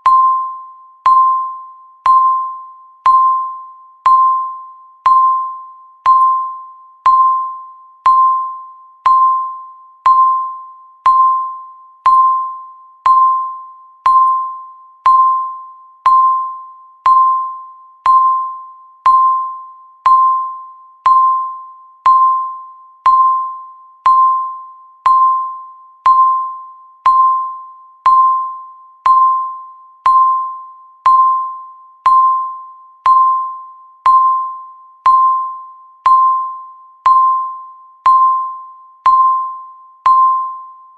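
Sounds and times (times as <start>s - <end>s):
timer beeps: 0.0s - 40.9s.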